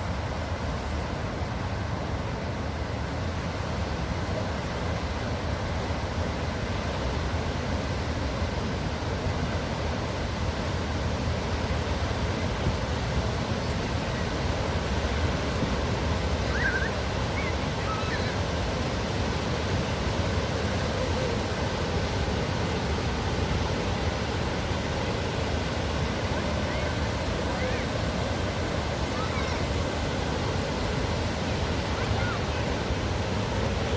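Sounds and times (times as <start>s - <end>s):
waterfall rushing: 3.1s - 33.9s.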